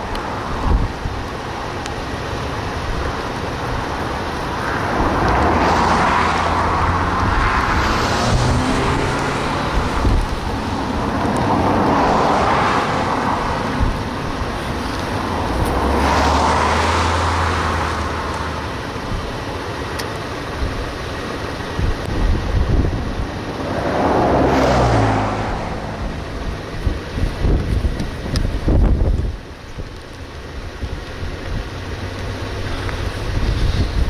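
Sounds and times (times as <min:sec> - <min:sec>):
cars passing: 0:00.0 - 0:34.0
low engine hum: 0:00.0 - 0:34.0.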